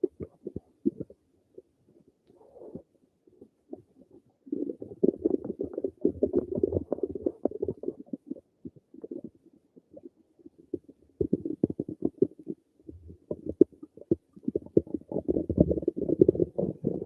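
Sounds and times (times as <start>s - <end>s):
stomach gurgling and rumbling: 0.0s - 17.0s.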